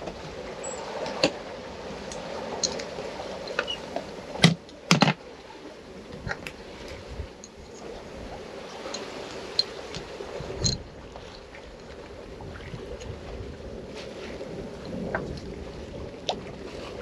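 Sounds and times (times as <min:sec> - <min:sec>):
water rushing past boat: 0:00.0 - 0:17.0.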